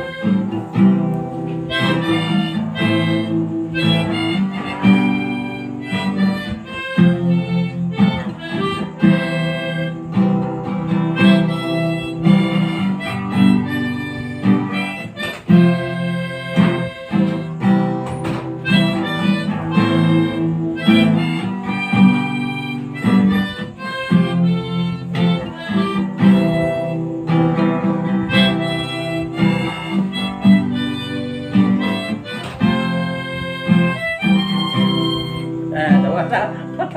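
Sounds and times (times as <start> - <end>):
harmonica playing a tune: 0.0 - 36.9
plucked guitar accompaniment: 0.0 - 36.9.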